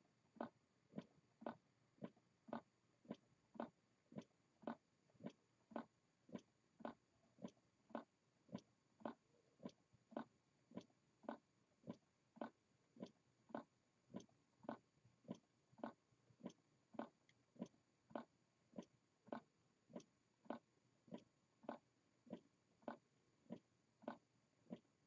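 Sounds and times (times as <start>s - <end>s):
faint mechanical ticking: 0.0s - 25.0s.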